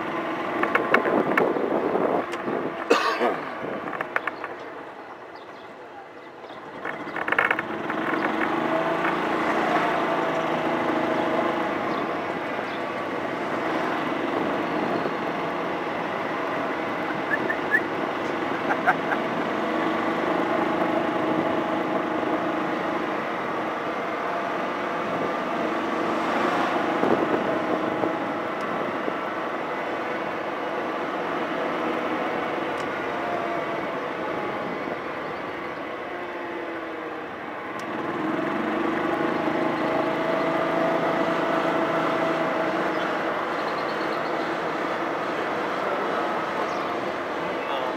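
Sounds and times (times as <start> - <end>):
small vehicle engine running: 0.0 - 47.9.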